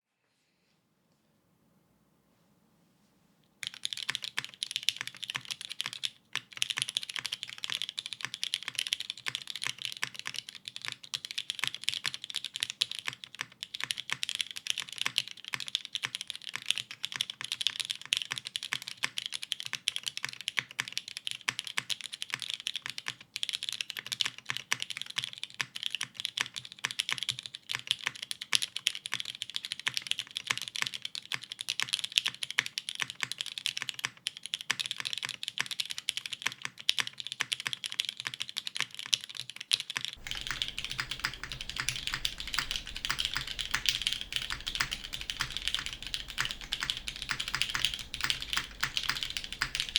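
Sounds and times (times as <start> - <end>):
mechanical keyboard typing: 3.6 - 49.9.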